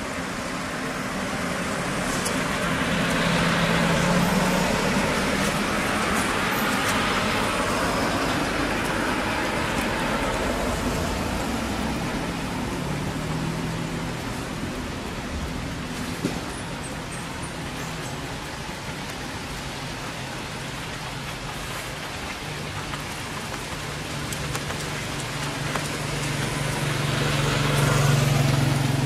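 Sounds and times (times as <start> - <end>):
rushing road noise: 0.0 - 29.0
vehicle engine hum: 0.0 - 29.0.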